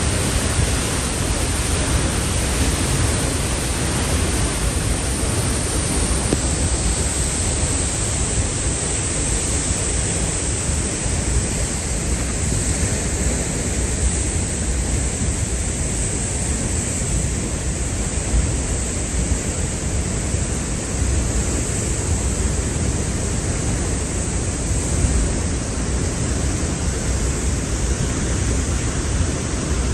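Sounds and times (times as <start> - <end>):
waterfall roaring: 0.0 - 29.9.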